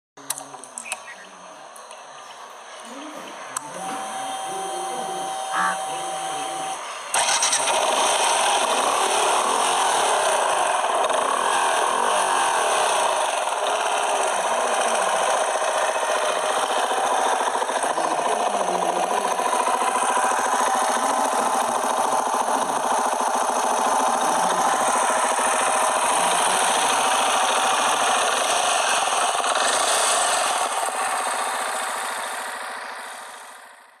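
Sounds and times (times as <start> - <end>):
motorcycle engine running: 2.5 - 34.0.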